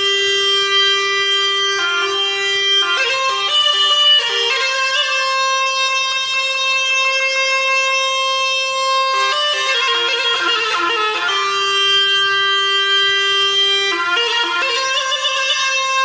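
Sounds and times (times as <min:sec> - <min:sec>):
bagpipe-like reed instrument music: 0:00.0 - 0:16.0.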